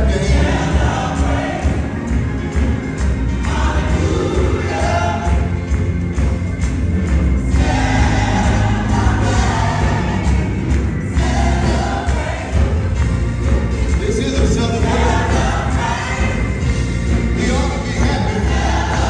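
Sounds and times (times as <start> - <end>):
band accompaniment with heavy bass: 0.0 - 19.0
gospel choir singing: 0.0 - 19.0.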